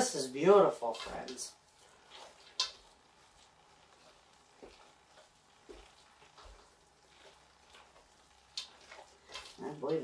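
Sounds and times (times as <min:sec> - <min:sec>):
spoon stirring in metal bowl: 0:00.9 - 0:10.0.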